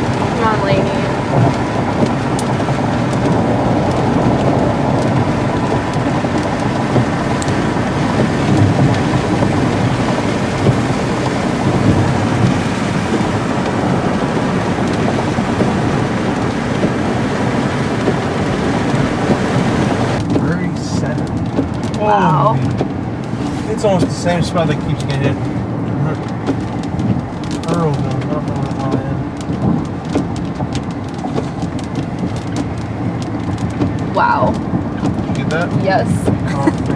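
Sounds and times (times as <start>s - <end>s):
heavy rain on a car: 0.0s - 36.9s
thunder rumbling: 0.0s - 36.9s.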